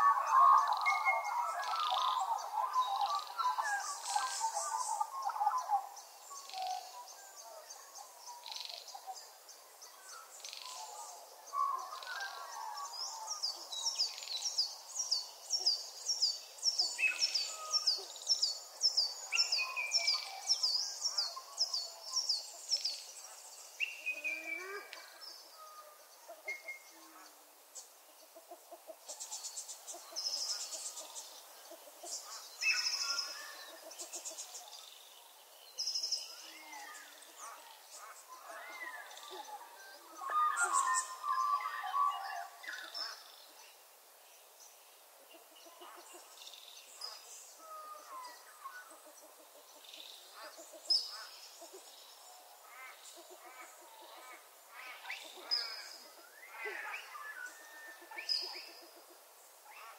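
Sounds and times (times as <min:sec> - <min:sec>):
wild birdsong: 0:00.0 - 0:59.9.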